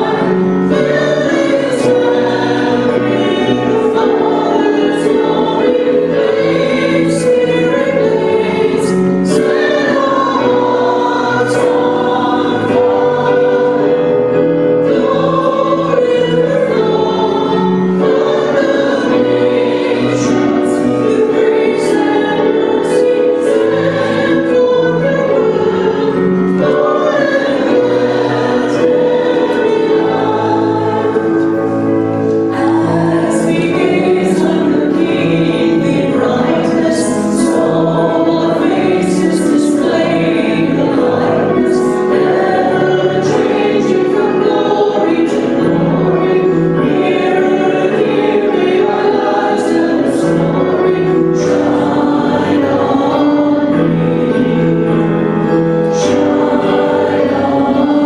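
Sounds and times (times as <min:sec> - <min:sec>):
group singing a hymn: 0:00.0 - 0:58.0
instrumental accompaniment: 0:00.0 - 0:58.0.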